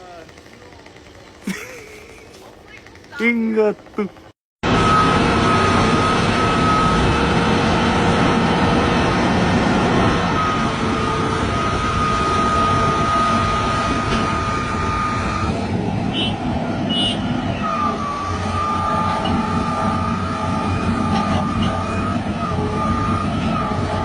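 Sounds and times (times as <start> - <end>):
heavy machine engine running: 0.0 - 24.0
high-pitched whine: 3.1 - 24.0.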